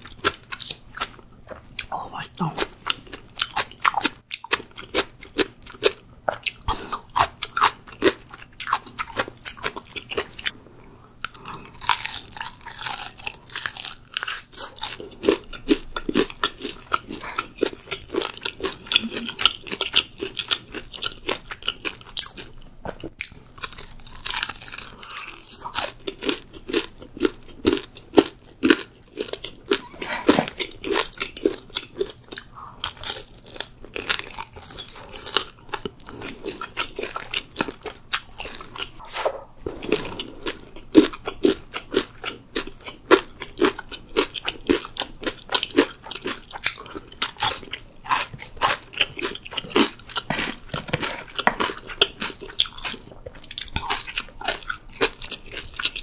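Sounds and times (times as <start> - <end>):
crunching bites and chewing: 0.0 - 2.0, 2.8 - 10.5, 11.2 - 56.0.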